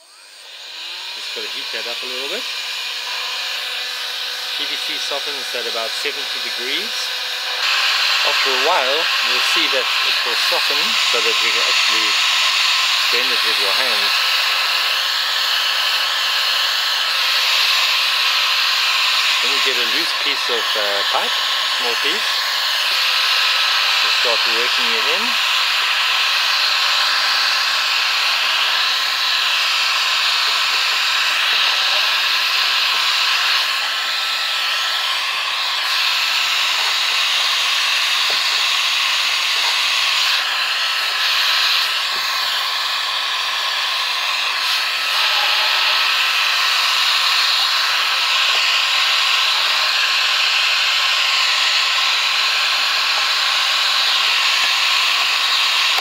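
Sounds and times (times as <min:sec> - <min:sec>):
hot air gun blowing: 0:00.0 - 0:56.0.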